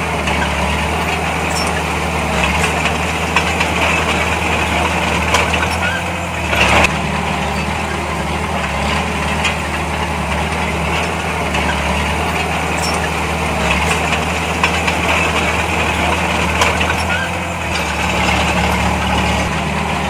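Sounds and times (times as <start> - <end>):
heavy diesel engine idling: 0.0 - 20.0.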